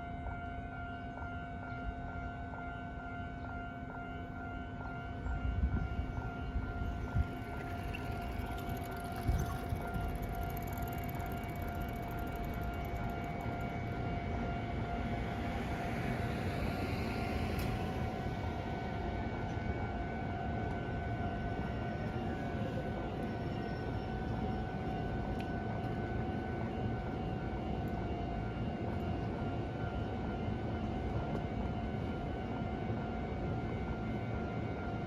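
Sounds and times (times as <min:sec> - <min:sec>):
railroad crossing alarm tones: 0:00.0 - 0:35.0
continuous low rumble: 0:05.0 - 0:34.8.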